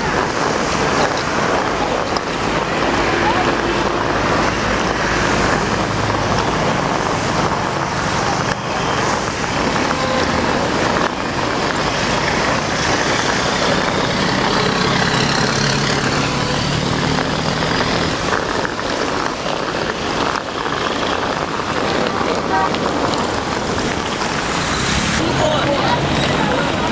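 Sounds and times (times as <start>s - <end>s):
cars driving on wet road: 0.0s - 26.9s.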